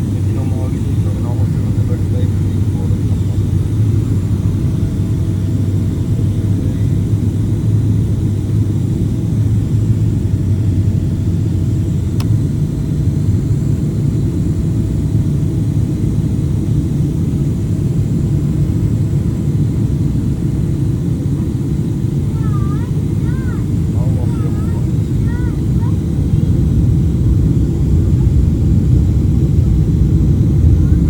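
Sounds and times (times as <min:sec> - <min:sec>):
low rumble of engines and airflow: 0:00.0 - 0:31.0.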